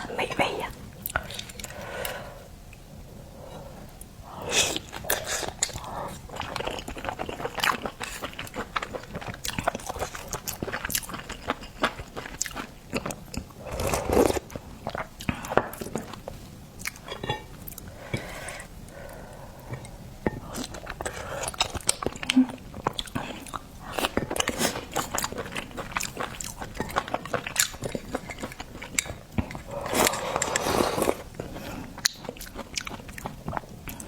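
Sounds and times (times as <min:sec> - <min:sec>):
person chewing crunchy food: 0:04.0 - 0:34.0.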